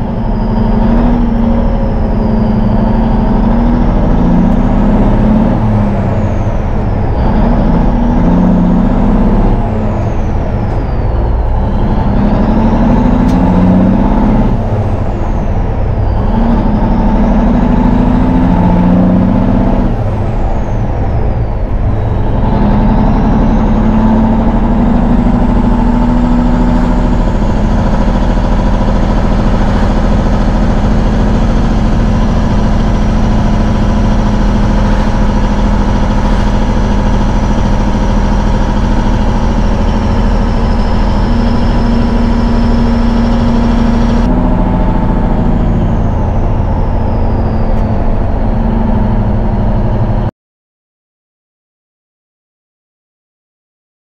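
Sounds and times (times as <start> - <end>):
diesel engine from inside cab: 0.0 - 50.3
high whine: 0.0 - 50.3.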